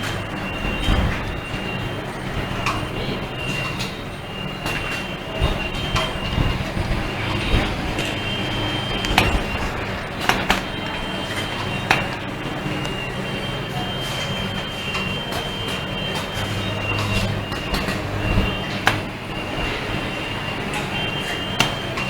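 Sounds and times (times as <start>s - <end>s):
high tone: 0.0s - 22.0s
machine mechanical hum: 0.0s - 22.0s.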